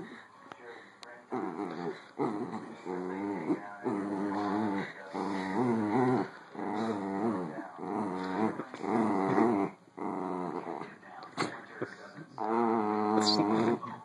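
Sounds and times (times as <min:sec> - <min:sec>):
dogs growling in play: 0:01.3 - 0:14.0.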